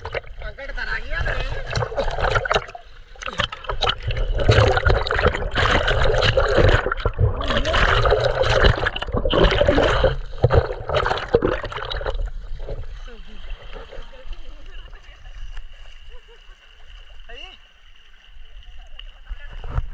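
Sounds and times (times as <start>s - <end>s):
water splashing and gurgling: 0.0s - 19.9s.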